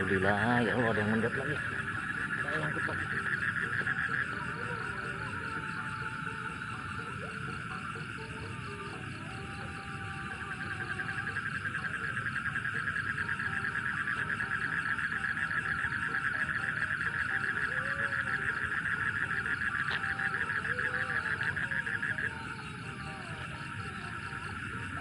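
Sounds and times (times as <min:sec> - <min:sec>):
animal pulsed trill call: 0:00.0 - 0:25.0.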